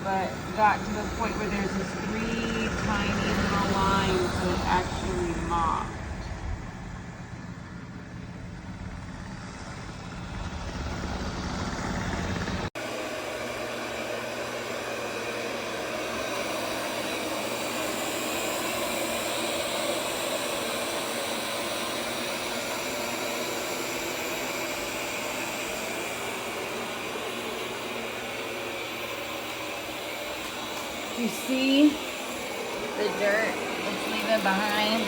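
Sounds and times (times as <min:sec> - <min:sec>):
robot vacuum running: 0:00.0 - 0:35.0.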